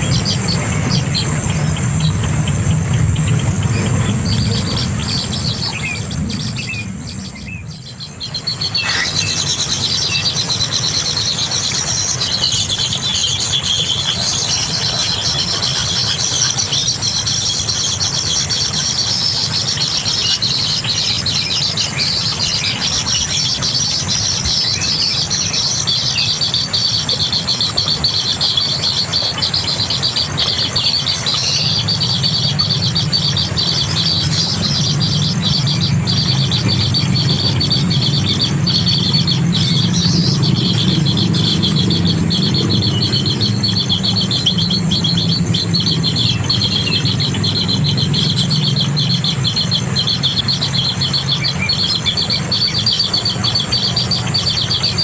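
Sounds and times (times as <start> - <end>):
low hum: 0.0 - 19.3, 29.1 - 54.8
young kingfisher chattering: 0.0 - 55.0.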